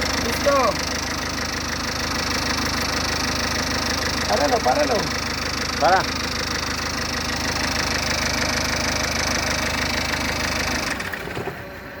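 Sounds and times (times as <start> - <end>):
diesel engine idling with clatter: 0.0 - 12.0.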